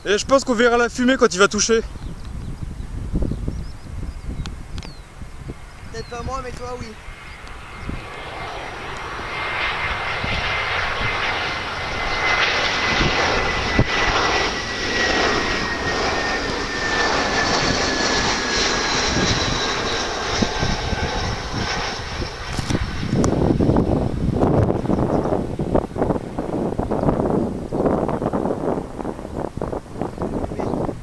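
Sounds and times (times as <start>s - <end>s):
jet engines rushing with whine: 0.0s - 31.0s.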